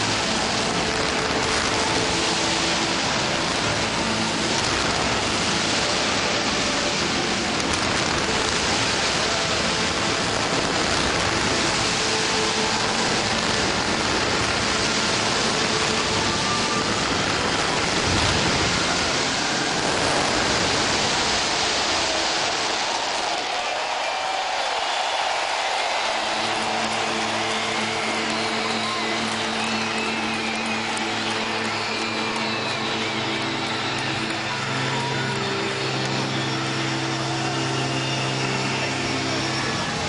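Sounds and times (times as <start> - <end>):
fireworks crackling: 0.0 - 40.0
low rumble of fireworks: 0.0 - 40.0.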